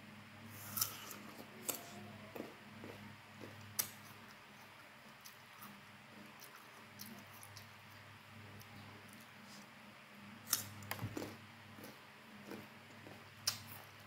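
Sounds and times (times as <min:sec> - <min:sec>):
steady low hum: 0:00.0 - 0:14.0
person chewing fruit: 0:00.5 - 0:09.7, 0:10.5 - 0:14.0.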